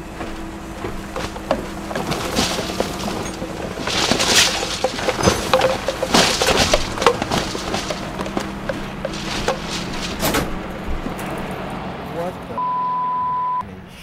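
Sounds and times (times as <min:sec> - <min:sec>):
footsteps going down stairs: 0:00.0 - 0:11.5
rustling bursts: 0:00.0 - 0:11.6.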